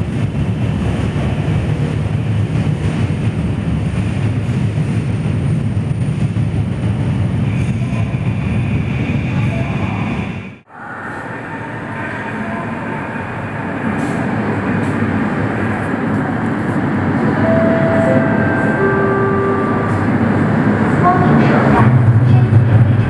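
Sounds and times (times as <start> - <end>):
train wheels and motors rumbling: 0.0 - 23.0.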